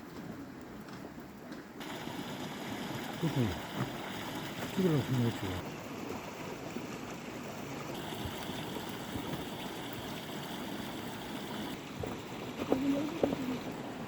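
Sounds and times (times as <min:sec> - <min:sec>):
stream flowing water: 0:00.1 - 0:14.0.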